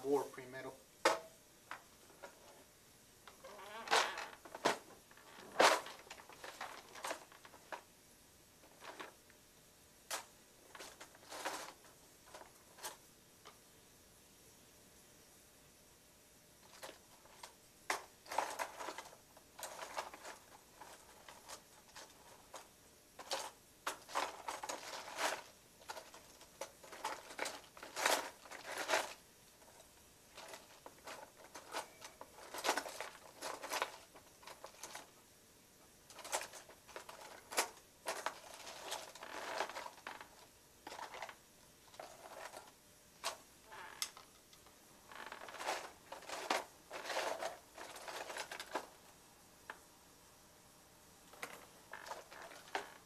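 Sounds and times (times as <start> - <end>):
small parts rustling and clattering: 0.0 - 7.9, 8.6 - 9.4, 10.0 - 13.6, 16.6 - 50.0, 51.2 - 53.0.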